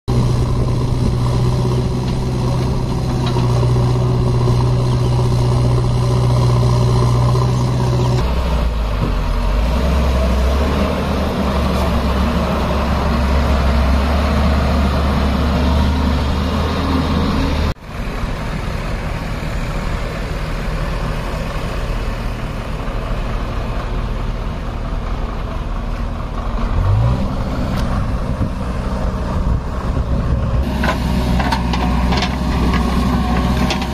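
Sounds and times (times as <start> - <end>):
heavy diesel engines running: 0.1 - 33.9.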